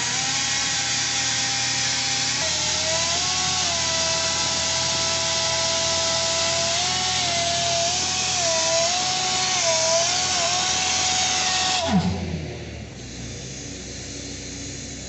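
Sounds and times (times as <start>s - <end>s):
pneumatic drill air rush and whine: 0.0s - 15.0s.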